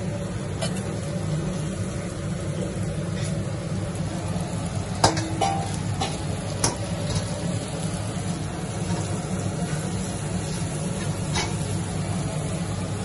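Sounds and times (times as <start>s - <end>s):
deep-frying in hot oil: 0.0s - 13.0s.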